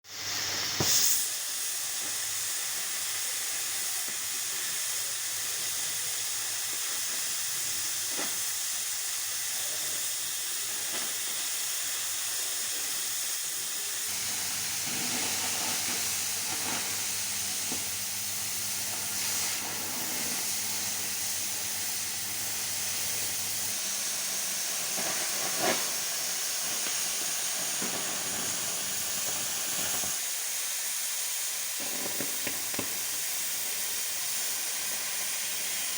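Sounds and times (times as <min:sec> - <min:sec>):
cutting torch hissing: 0:00.0 - 0:35.9
torch popping: 0:00.1 - 0:13.1, 0:14.0 - 0:30.2, 0:31.8 - 0:35.9.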